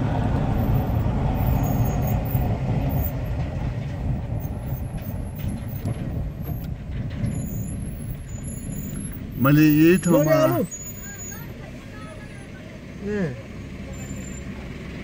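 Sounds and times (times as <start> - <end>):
vehicle rumbling on unpaved road: 0.0 - 15.0.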